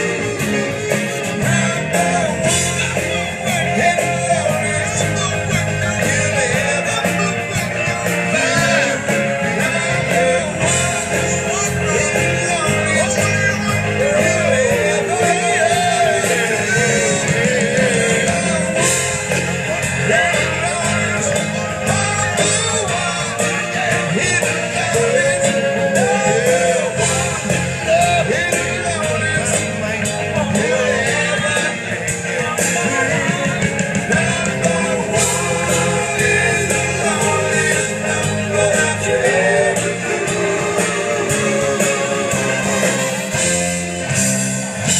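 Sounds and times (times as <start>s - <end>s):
person singing: 0.0s - 43.7s
bending lead melody: 0.0s - 44.9s
drums: 0.0s - 44.9s
electric guitar: 0.0s - 44.9s
live rock band playing: 0.0s - 44.9s.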